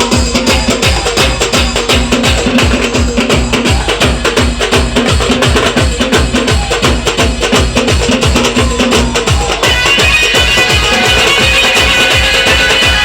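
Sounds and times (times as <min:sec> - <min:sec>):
band music with fast drum beat: 0:00.0 - 0:13.0.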